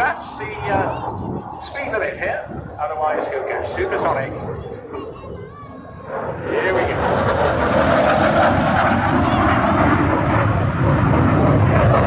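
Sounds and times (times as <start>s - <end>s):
jet roar in low pass: 0.0s - 12.0s.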